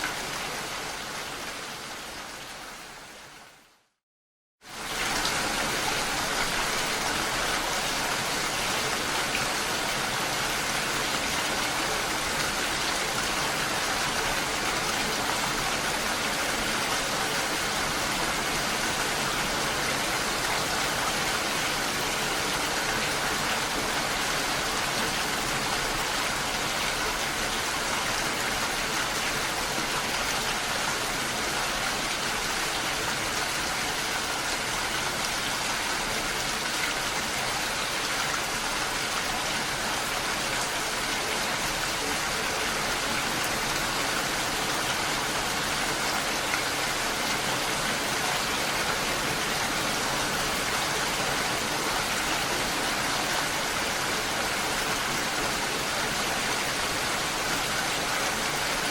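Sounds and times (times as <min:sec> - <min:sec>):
steady rain falling: 0:00.0 - 0:04.0, 0:04.6 - 0:58.9.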